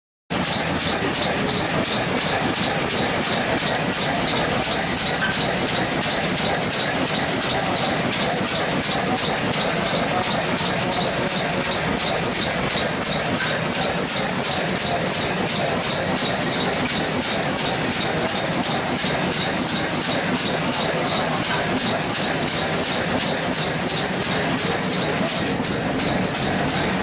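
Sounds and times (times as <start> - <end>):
stationary engine running: 0.3 - 27.0.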